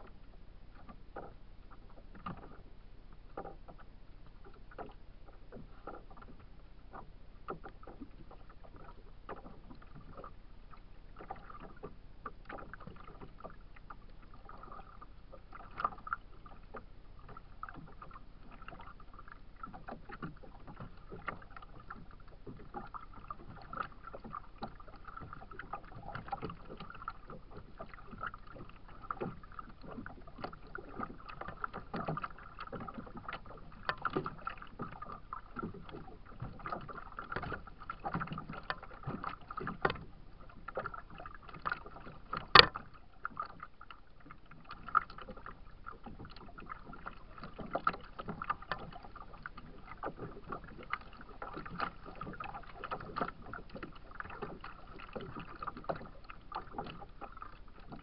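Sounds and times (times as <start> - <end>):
faint steady hum: 0.0 - 58.0
waves slapping a kayak hull: 0.0 - 58.0.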